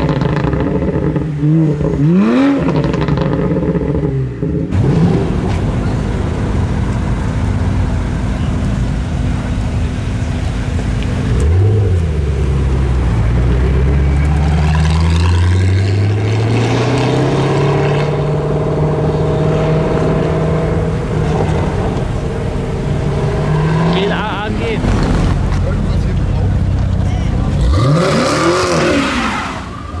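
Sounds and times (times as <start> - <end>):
car accelerating away: 0.0 - 30.0
car engine idling and revving: 0.0 - 30.0.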